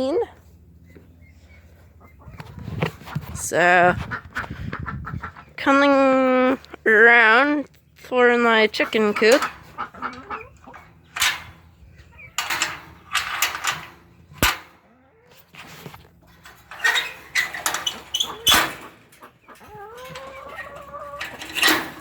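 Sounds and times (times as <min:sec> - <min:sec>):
chickens clucking and squawking: 0:00.0 - 0:22.0.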